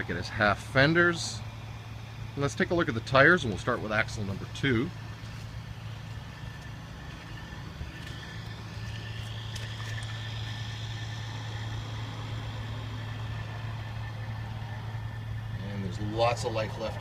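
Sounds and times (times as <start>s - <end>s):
faint high whine: 0.0s - 17.0s
truck engine idling: 0.0s - 17.0s.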